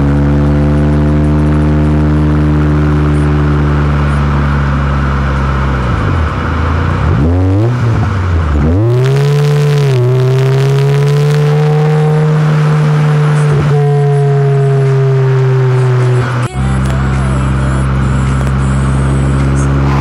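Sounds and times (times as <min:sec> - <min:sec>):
car engine and exhaust revving: 0:00.0 - 0:20.0.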